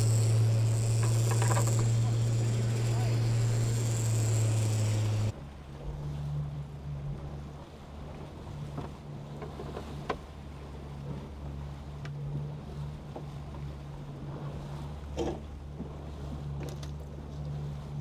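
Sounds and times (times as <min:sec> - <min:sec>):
outboard motor running: 0:00.0 - 0:18.0
water rushing along hull: 0:00.0 - 0:18.0.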